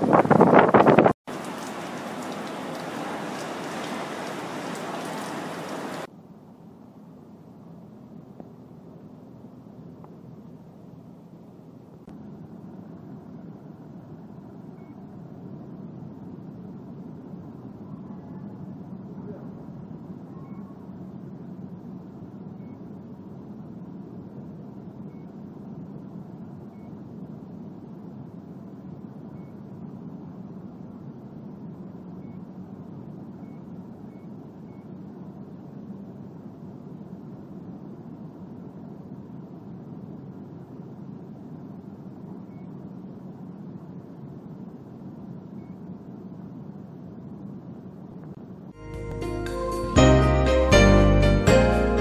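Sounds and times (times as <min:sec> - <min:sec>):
air cooler fan running: 0:00.0 - 0:52.0.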